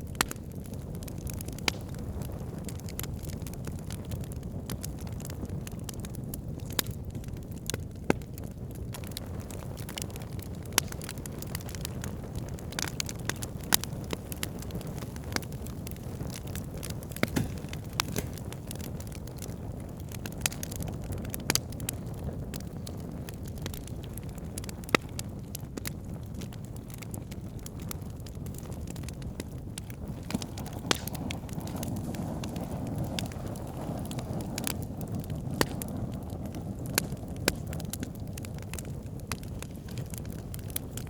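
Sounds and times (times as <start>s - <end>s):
campfire crackling: 0.0s - 41.0s
sharp pops of fire: 0.0s - 41.0s.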